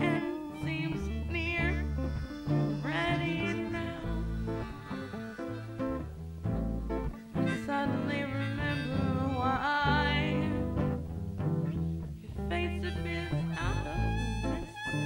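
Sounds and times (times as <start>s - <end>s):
country tune with guitar and bass: 0.0s - 15.0s.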